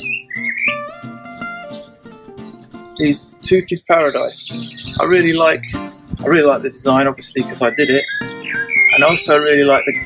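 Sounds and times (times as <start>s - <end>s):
acoustic guitar music: 0.0s - 10.0s
bird chirping: 0.0s - 10.0s.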